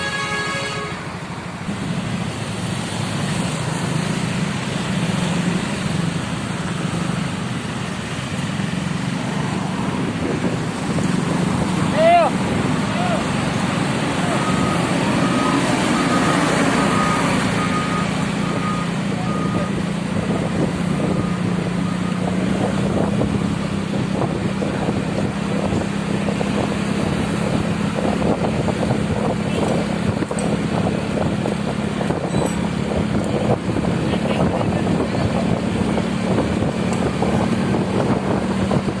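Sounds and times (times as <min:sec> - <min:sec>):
traffic noise: 0:00.0 - 0:39.0
heavy vehicle engine running: 0:01.0 - 0:39.0.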